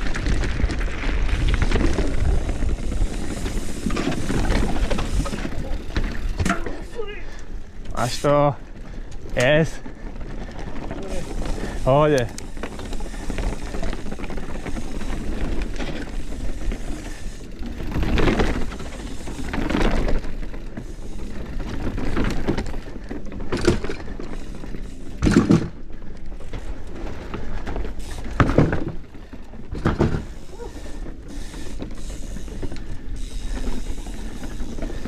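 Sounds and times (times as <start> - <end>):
bike rattling on rough trail: 0.0 - 35.0.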